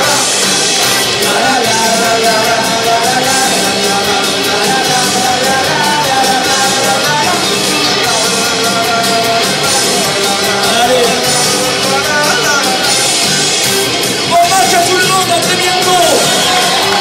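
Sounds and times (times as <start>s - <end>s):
rock band with singer: 0.0s - 17.0s.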